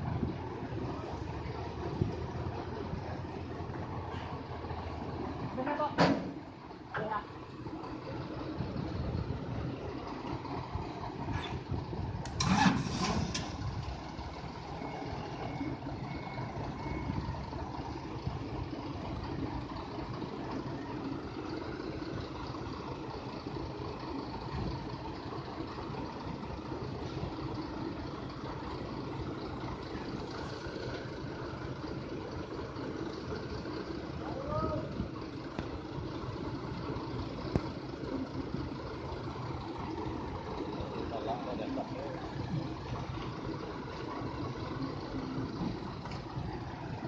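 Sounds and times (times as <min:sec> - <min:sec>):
forklift and truck engines idling: 0:00.0 - 0:47.0.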